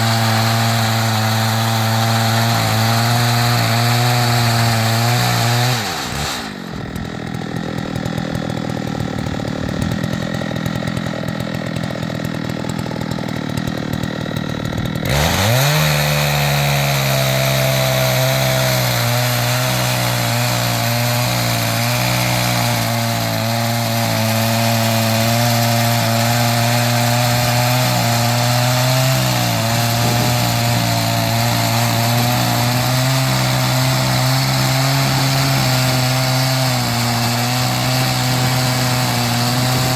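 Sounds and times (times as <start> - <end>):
chainsaw idling: 0.0 - 39.9
chainsaw sawing through log: 0.0 - 39.9.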